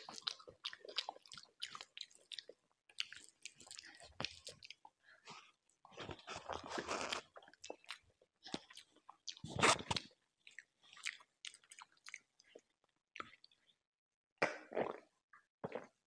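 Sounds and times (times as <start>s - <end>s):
person chewing food: 0.0s - 13.8s.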